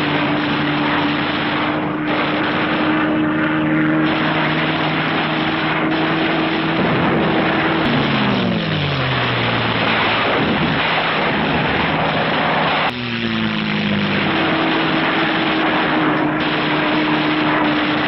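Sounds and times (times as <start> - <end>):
propeller aircraft engines droning: 0.0 - 18.0.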